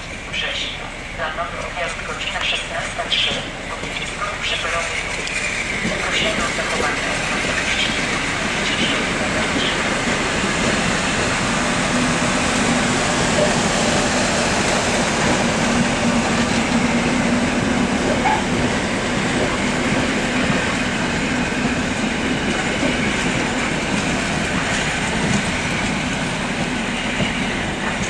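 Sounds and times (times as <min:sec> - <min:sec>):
train rolling: 0:00.0 - 0:28.0.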